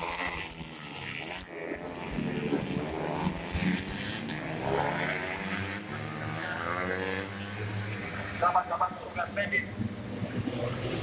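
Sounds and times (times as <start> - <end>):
motorcycle engines revving past: 0.0 - 11.0.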